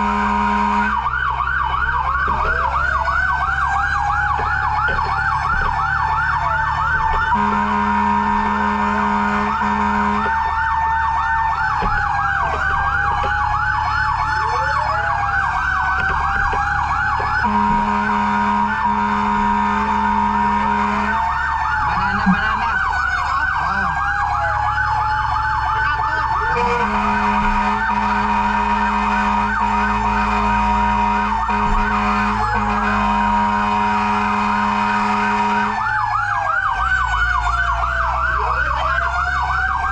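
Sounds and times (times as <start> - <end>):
engine rumble: 0.0 - 39.9
fire truck sirens: 0.0 - 39.9
low horn blaring: 0.0 - 39.9.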